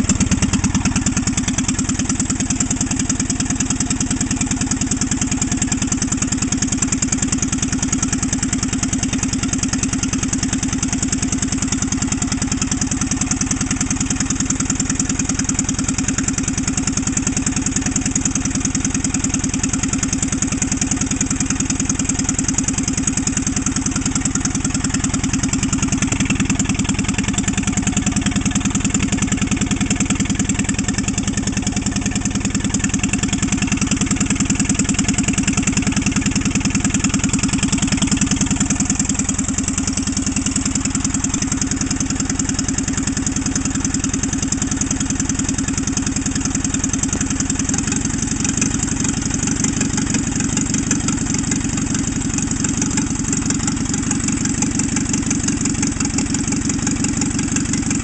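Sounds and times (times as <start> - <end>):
air-cooled engine running steadily: 0.0 - 58.0.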